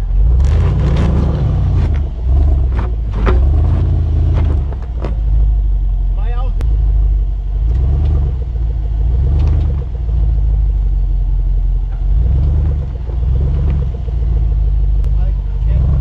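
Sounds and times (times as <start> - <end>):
engine rumbling under load: 0.0 - 16.0.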